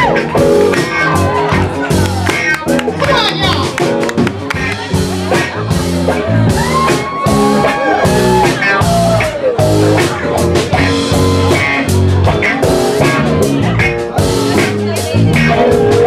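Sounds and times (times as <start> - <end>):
bending lead melody: 0.0 - 16.0
live rock band playing: 0.0 - 16.0.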